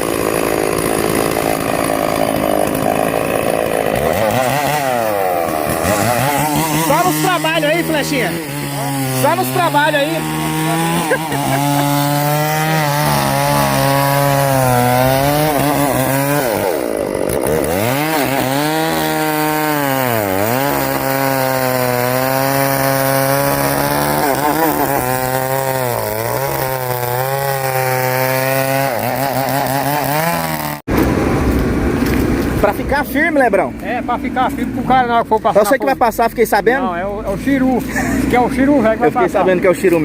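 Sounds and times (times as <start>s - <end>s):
chainsaw cutting through log: 0.0s - 40.0s.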